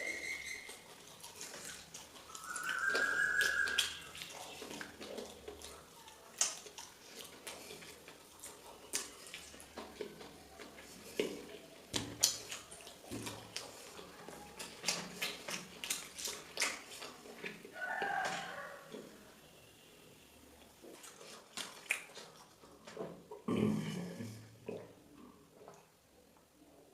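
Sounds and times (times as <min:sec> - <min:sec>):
wet chewing and lip smacks: 0:00.2 - 0:19.2, 0:20.6 - 0:23.4.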